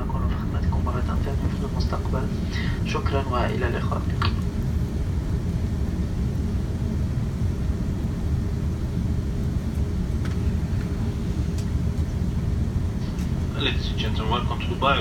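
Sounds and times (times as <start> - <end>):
low rumble in aircraft cabin: 0.0 - 15.0.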